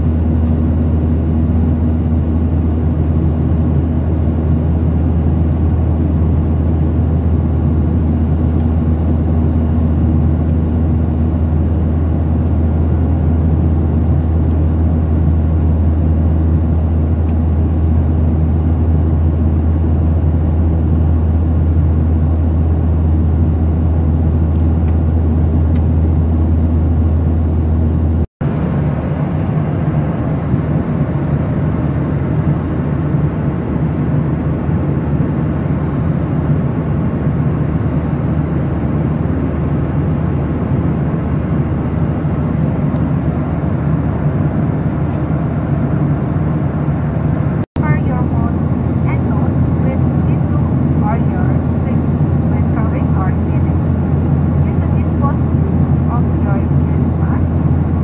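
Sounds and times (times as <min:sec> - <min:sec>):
jet airliner cabin drone: 0:00.0 - 0:58.0.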